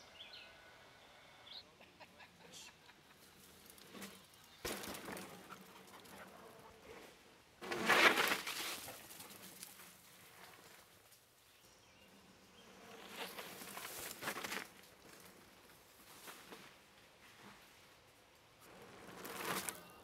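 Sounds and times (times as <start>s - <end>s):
tyres on dirt: 3.0s - 7.0s, 7.6s - 20.0s
mountain bike riding past: 3.1s - 20.0s.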